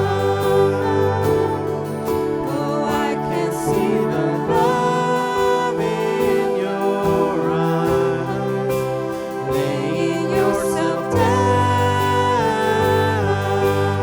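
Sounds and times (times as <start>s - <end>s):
slow worship music from band: 0.0s - 14.0s.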